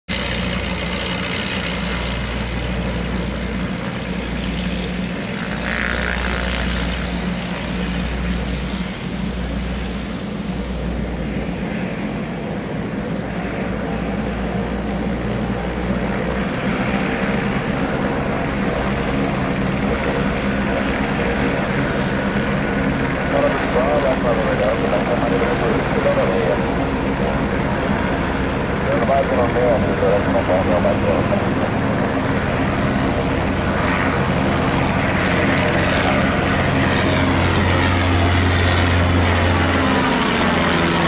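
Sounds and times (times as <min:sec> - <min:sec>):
propeller plane engines taxiing: 0:00.1 - 0:41.0.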